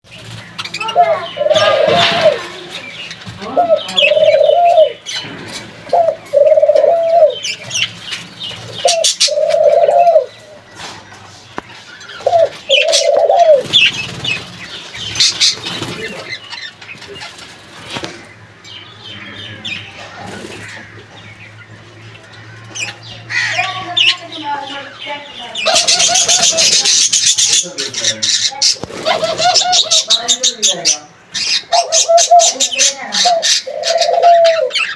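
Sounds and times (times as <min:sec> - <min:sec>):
drawn-out low bird calls: 0:00.1 - 0:34.9.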